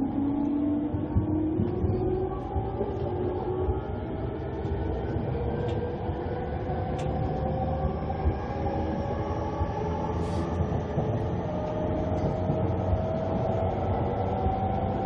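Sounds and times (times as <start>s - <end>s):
wheel-on-rail rumble: 0.0s - 15.0s.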